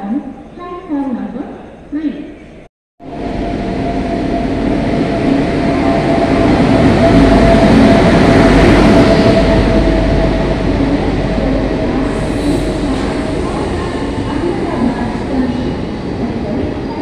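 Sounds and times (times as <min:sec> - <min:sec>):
electric locomotive rumbling past: 0:03.0 - 0:17.0
train coaches rolling by: 0:03.1 - 0:17.0.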